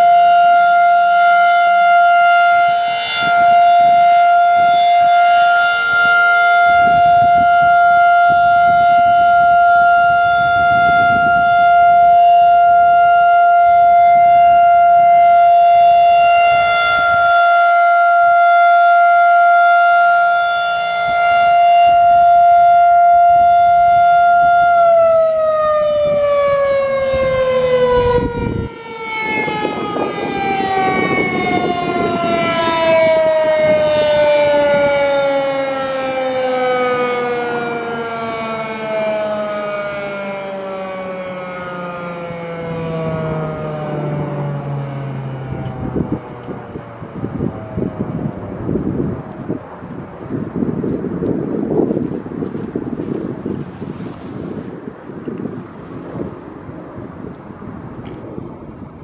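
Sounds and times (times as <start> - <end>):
warning siren steady tone: 0.0 - 59.0.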